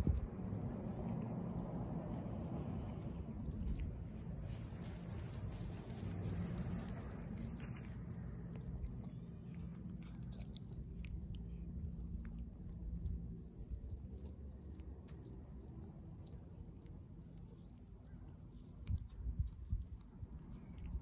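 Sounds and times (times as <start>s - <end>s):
cat chewing raw fish: 0.0s - 21.0s
steady low rumble: 0.0s - 21.0s.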